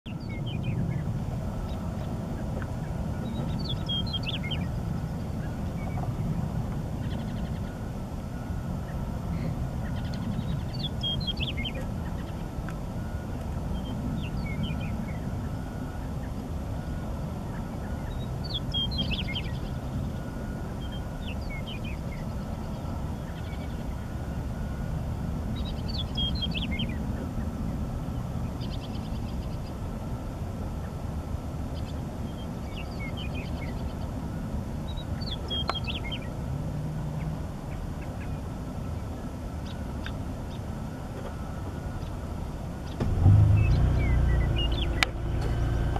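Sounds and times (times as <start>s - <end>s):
bird singing: 0.1s - 29.8s, 31.7s - 34.2s, 34.8s - 36.4s, 37.1s - 40.7s, 42.8s - 45.4s
steady low rumble: 0.1s - 45.9s.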